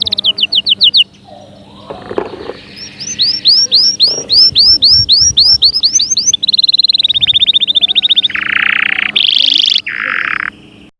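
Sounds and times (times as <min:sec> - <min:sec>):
canary singing: 0:00.0 - 0:10.9.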